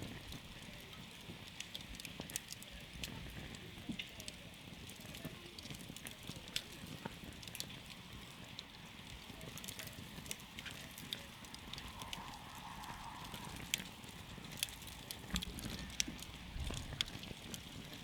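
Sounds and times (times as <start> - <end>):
campfire flames rumbling: 0.0 - 18.0
fire crackles and pops: 0.0 - 18.0.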